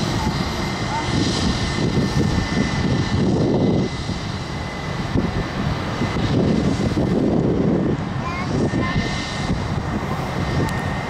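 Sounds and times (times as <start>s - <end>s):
jet engine high whine: 0.0s - 11.0s
jet engine low rumble: 0.0s - 11.0s.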